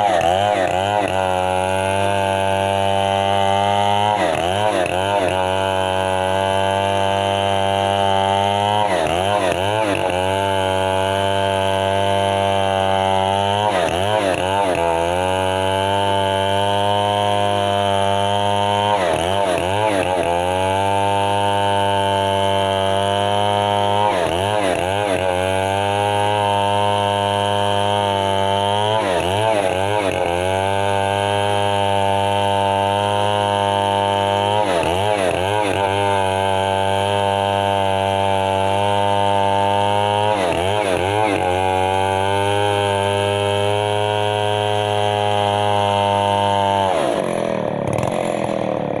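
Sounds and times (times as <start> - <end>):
chainsaw running at high revs: 0.0 - 49.0.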